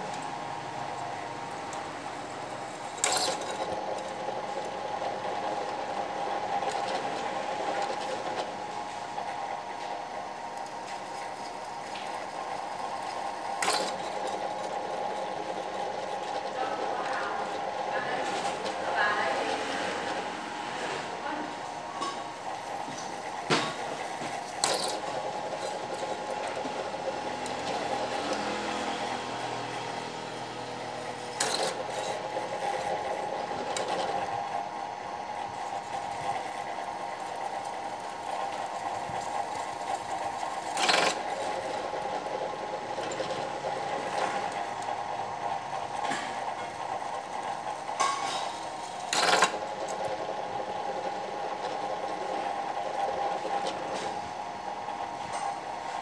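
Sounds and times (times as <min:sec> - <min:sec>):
drill press running: 0:00.0 - 0:56.0.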